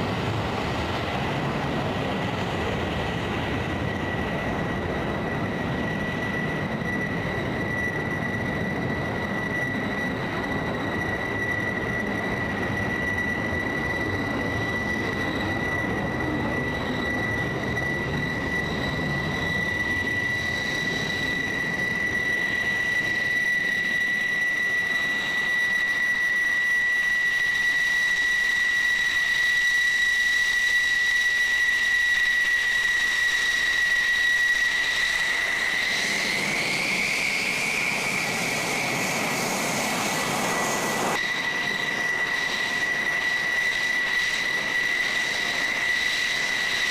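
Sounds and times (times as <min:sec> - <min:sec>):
jet engine whine and roar: 0:00.0 - 0:46.9.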